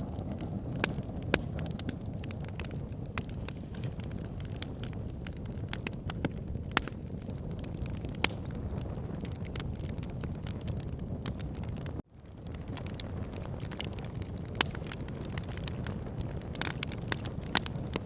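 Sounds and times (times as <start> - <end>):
fire flames rumbling: 0.0 - 18.0
logs crackling and popping: 0.0 - 18.0.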